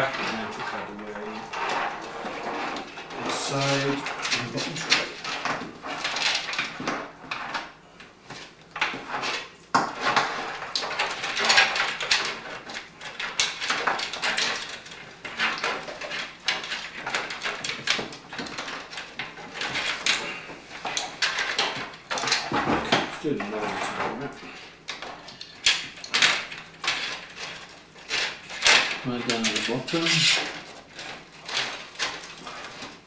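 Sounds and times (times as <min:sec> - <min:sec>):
cables rustling and scraping: 0:00.0 - 0:33.0.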